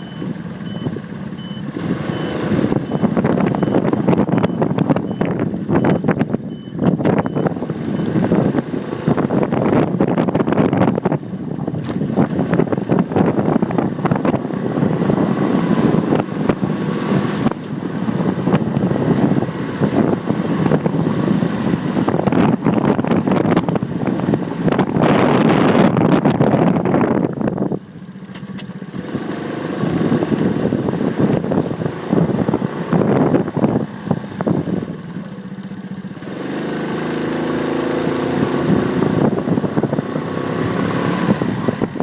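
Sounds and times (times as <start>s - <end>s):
motorcycle engine running: 0.0s - 42.0s
road noise: 0.0s - 42.0s
street traffic: 0.0s - 42.0s
wind buffeting microphone: 2.5s - 27.8s, 29.8s - 34.9s, 37.3s - 42.0s.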